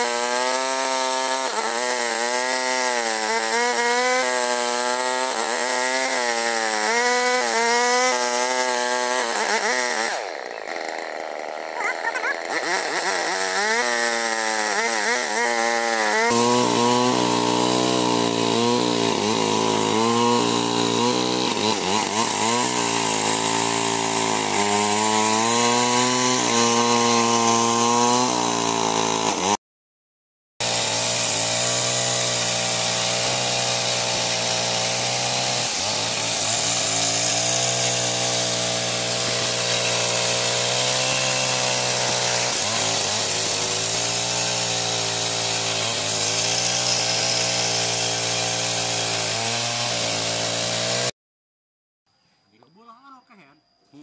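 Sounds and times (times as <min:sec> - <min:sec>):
chainsaw cutting wood: 0:00.0 - 0:29.6, 0:30.6 - 0:51.2.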